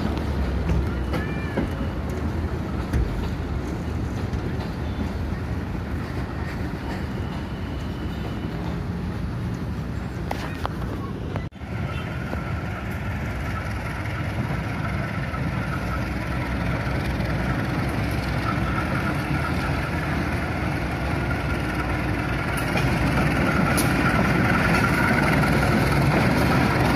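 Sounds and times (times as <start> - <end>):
diesel locomotive passing: 0.0 - 26.9.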